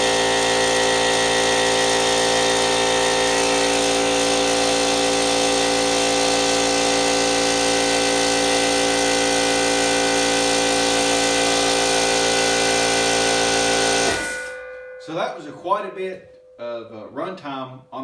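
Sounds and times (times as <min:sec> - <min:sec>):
impact wrench whine: 0:00.0 - 0:15.2.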